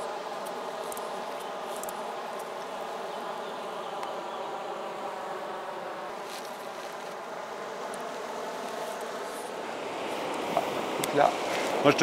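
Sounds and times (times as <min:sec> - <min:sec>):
insect buzzing: 0:00.0 - 0:12.0.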